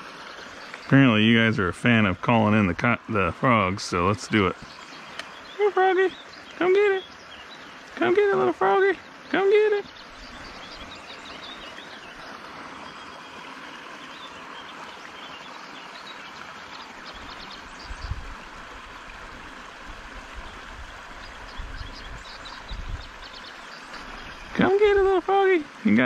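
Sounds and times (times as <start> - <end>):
water pouring into a creek: 0.0 - 26.0.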